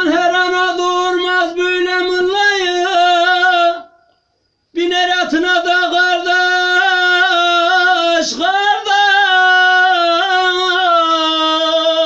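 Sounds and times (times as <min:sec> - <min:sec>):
man singing folk lament: 0:00.0 - 0:04.0, 0:04.7 - 0:12.0.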